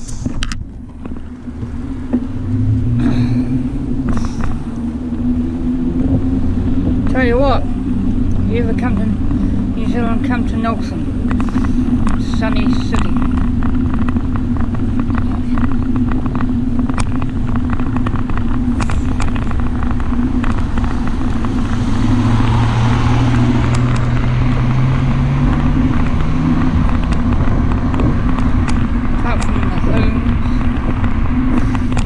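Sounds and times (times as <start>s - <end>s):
motor vehicle engine: 0.0s - 32.0s
road noise: 0.0s - 32.0s
wind buffeting: 0.0s - 32.0s.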